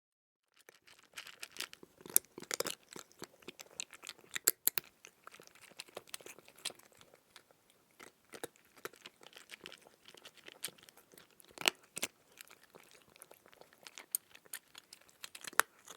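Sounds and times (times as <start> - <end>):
crunchy chewing: 0.5 - 15.9.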